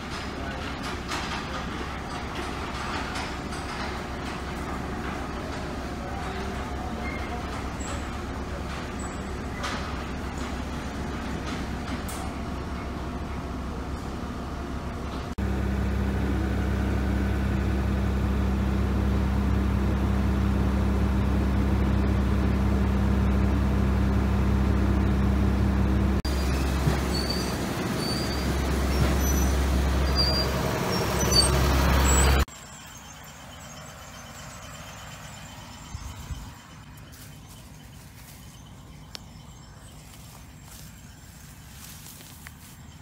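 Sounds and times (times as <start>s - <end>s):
vehicle engine rumbling: 0.0s - 43.0s.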